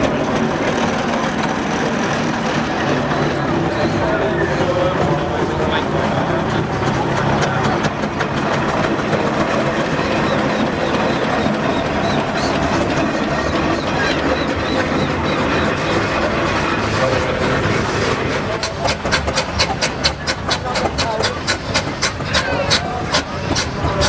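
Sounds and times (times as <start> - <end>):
steam traction engines rumbling: 0.0 - 24.0.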